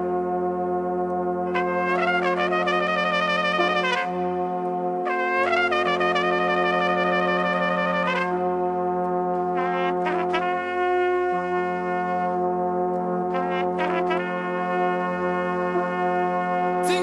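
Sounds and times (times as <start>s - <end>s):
brass music from a television: 0.0s - 17.0s.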